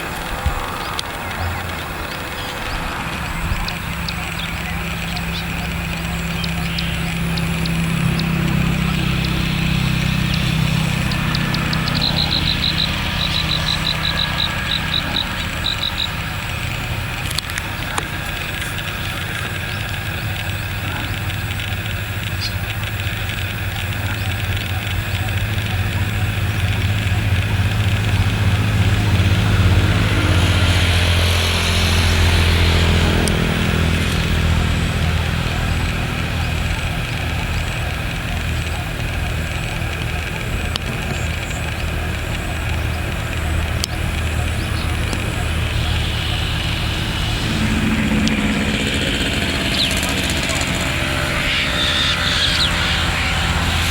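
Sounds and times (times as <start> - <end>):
tyre and road hiss: 0.0 - 53.9
vehicle engine humming: 0.0 - 53.9.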